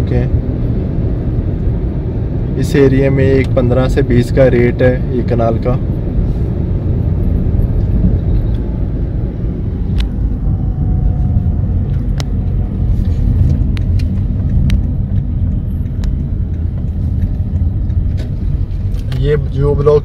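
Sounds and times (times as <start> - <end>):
engine and tyre rumble in car: 0.0 - 20.0.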